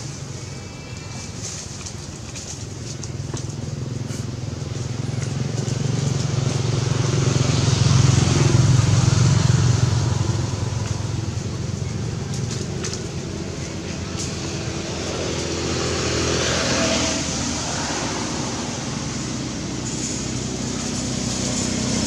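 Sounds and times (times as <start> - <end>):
vehicle engine passing by: 3.6 - 22.0.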